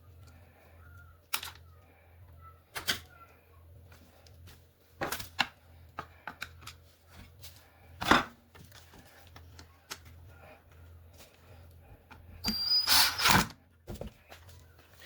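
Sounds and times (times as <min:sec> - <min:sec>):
faint low hum: 0:00.0 - 0:12.8.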